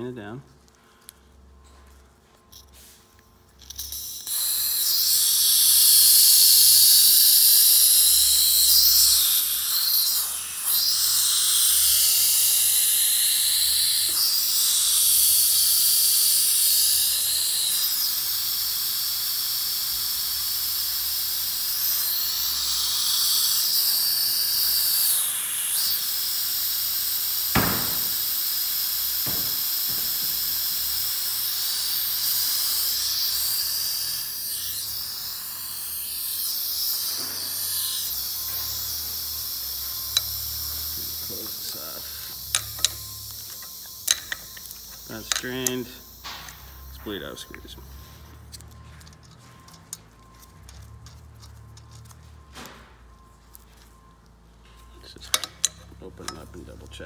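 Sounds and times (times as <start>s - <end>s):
gas hissing from valve: 2.8s - 48.6s.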